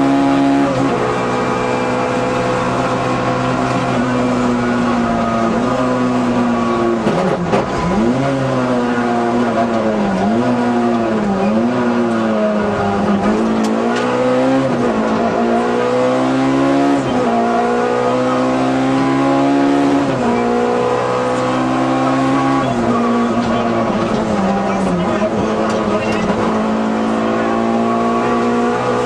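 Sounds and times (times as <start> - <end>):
car engine revving hard: 0.0 - 29.0.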